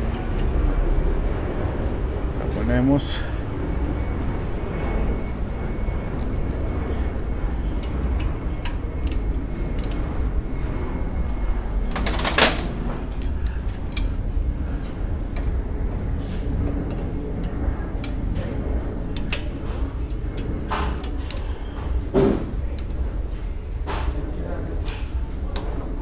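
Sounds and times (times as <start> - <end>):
low workshop rumble: 0.0 - 26.0.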